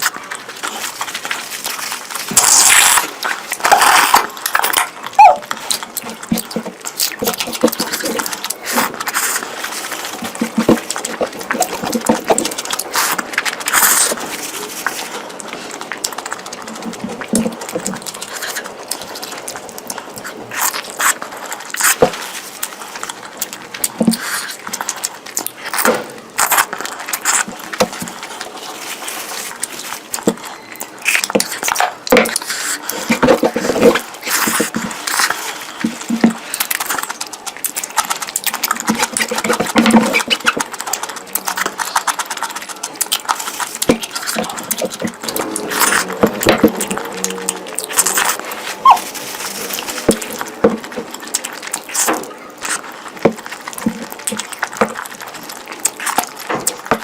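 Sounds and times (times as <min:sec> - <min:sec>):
close chewing: 0:00.0 - 0:57.0.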